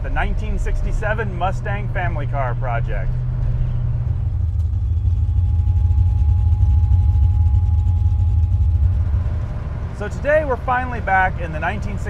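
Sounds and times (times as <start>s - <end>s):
car engine rumbling: 0.0s - 12.0s
thin steady whine: 0.0s - 12.0s.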